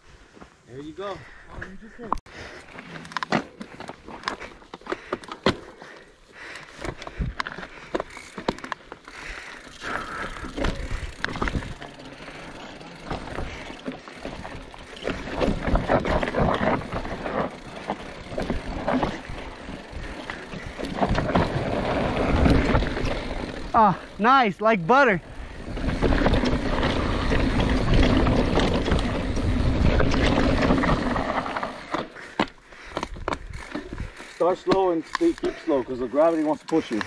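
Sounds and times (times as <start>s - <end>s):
bike rattling and clicking: 2.2s - 37.0s
tyres rolling on dirt and rock: 2.5s - 37.0s.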